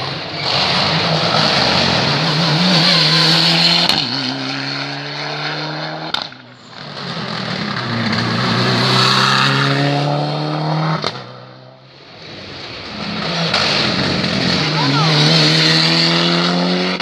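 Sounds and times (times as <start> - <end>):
rally car engines passing: 0.0 - 17.0.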